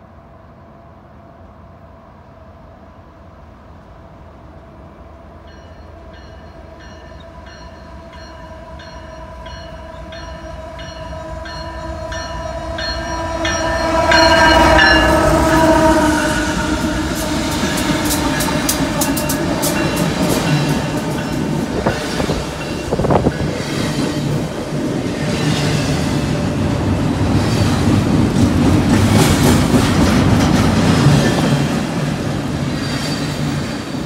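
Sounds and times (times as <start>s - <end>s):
diesel locomotives hauling train: 0.0s - 34.0s.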